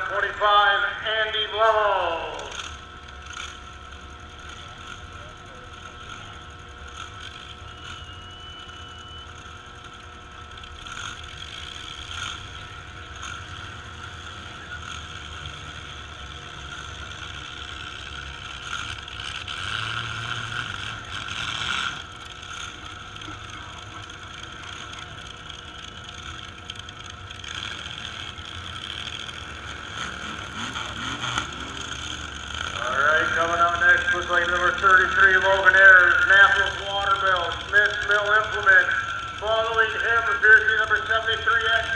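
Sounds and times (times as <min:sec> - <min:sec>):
distant truck engines rumbling: 0:00.0 - 0:41.9.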